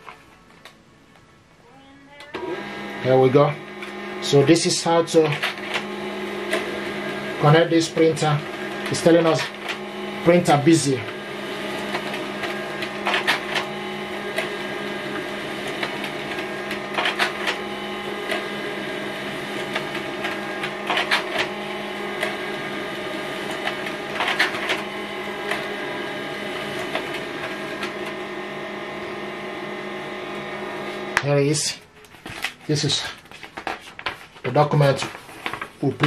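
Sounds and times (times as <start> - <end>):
laser printer humming: 2.2 - 32.1
printer pages feeding rasp: 2.4 - 31.2, 32.2 - 36.0.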